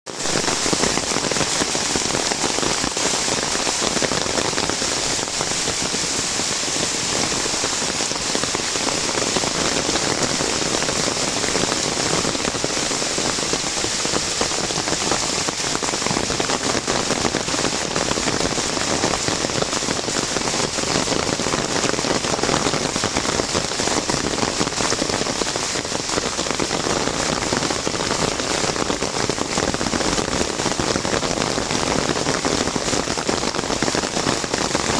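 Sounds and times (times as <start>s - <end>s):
heavy rain on umbrella: 0.0s - 34.9s.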